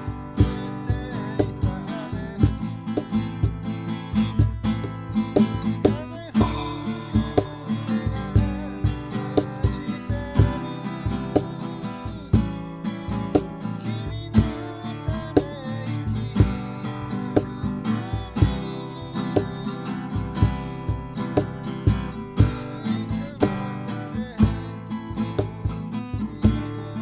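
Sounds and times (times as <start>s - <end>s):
acoustic guitar strumming: 0.0s - 27.0s
steady beat: 0.0s - 27.0s.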